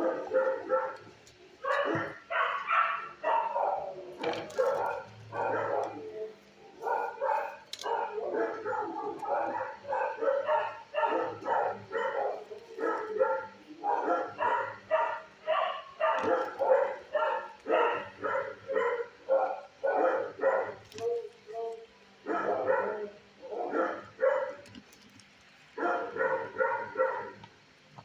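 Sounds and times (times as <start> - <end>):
dog barking: 0.0 - 24.6, 25.8 - 27.4.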